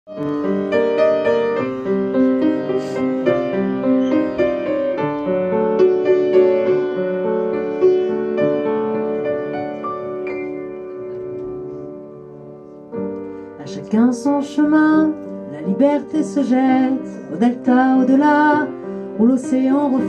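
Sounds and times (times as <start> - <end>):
piano playing: 0.1 - 20.0.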